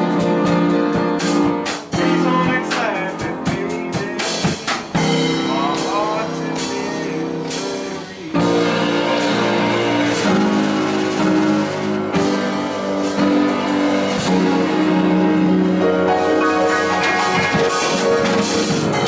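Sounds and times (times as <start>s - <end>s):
guitar bending notes: 0.0s - 19.0s
live blues band: 0.0s - 19.0s.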